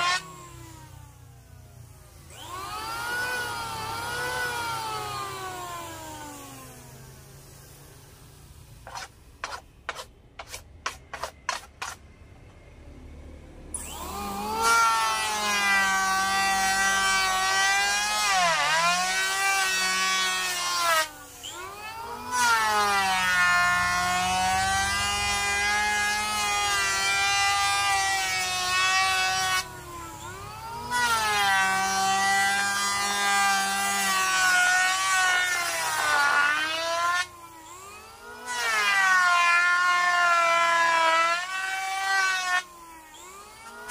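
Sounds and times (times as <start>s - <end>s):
electric hand planer whining: 0.0s - 12.0s, 13.7s - 43.9s.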